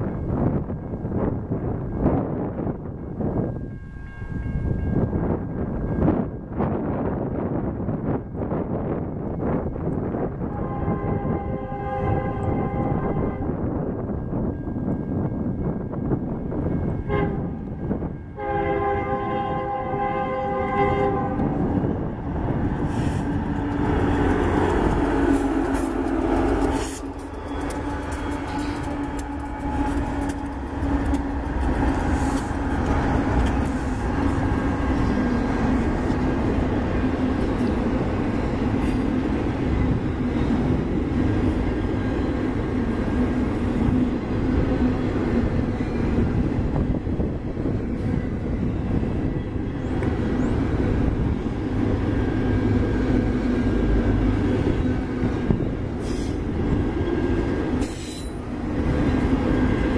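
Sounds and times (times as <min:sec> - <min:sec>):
diesel locomotive drone: 0:00.0 - 0:59.9
train wheels rumbling on rails: 0:00.0 - 0:59.9.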